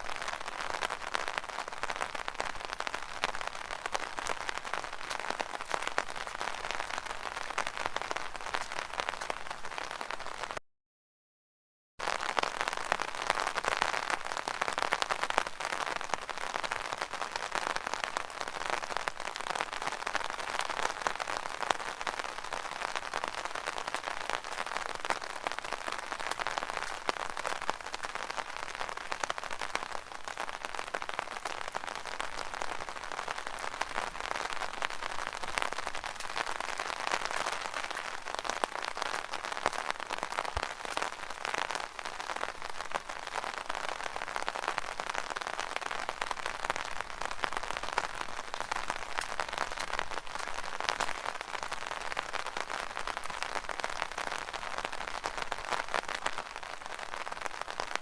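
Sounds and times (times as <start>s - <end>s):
rain on umbrella: 0.0s - 10.6s, 12.0s - 58.0s.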